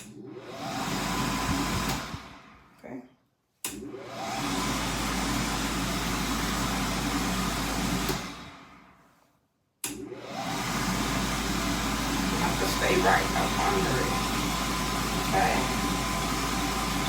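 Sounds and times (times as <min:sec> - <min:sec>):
hand dryer blowing: 0:00.0 - 0:02.6, 0:03.7 - 0:08.8, 0:09.9 - 0:17.0.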